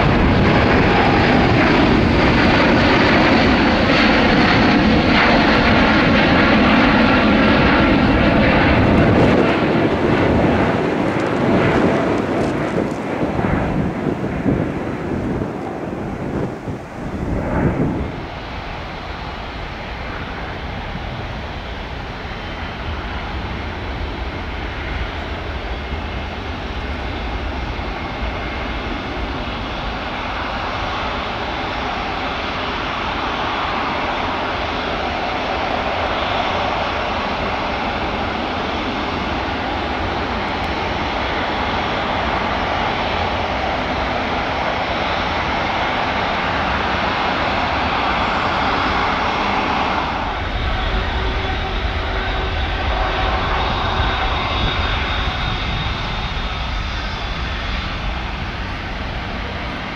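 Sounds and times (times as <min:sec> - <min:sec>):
jet engines at taxi power: 0:00.0 - 0:59.9.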